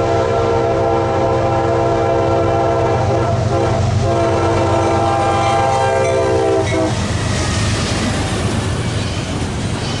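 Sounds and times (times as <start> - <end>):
freight train passing: 0.0 - 10.0.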